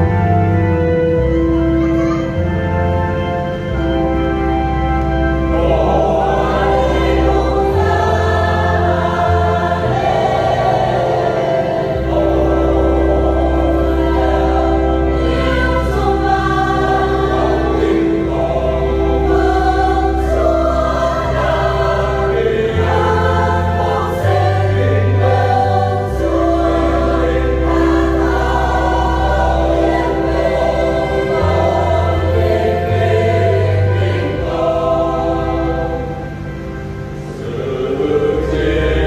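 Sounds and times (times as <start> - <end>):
choir singing a hymn: 0.0 - 39.0
low bass notes: 0.0 - 39.0.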